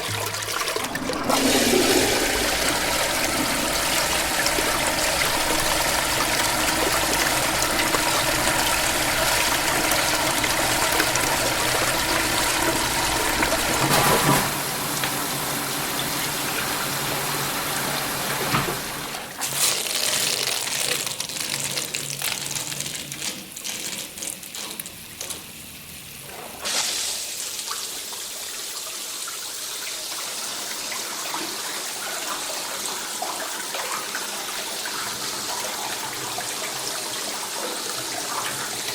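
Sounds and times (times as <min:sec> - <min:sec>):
toilet flushing: 0:00.0 - 0:38.9.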